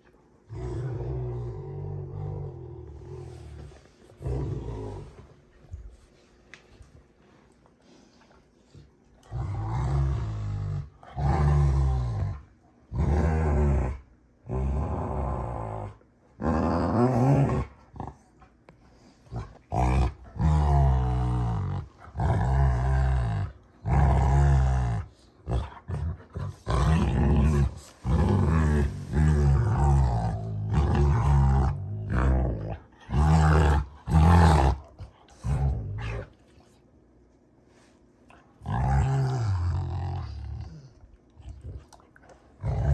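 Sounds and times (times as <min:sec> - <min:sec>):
dogs growling: 0:00.5 - 0:05.9, 0:08.7 - 0:18.6, 0:19.2 - 0:36.6, 0:38.3 - 0:42.9.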